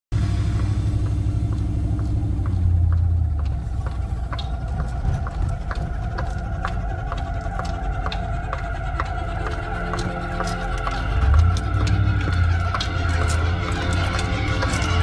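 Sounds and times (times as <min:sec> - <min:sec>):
engine and road rumble: 0:00.1 - 0:15.0
light ticking: 0:00.5 - 0:15.0.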